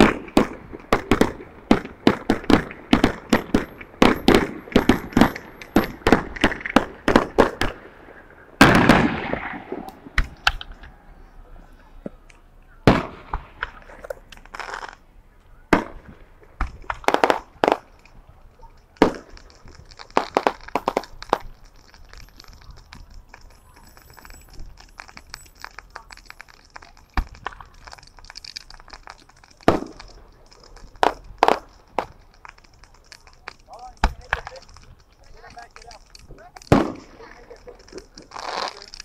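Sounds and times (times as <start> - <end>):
fireworks cracking and popping: 0.0 - 11.0, 12.2 - 39.0.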